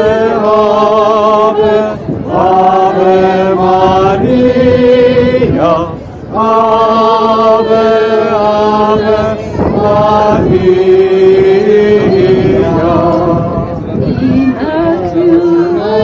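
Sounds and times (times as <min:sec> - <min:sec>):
voices singing a slow hymn: 0:00.0 - 0:16.0.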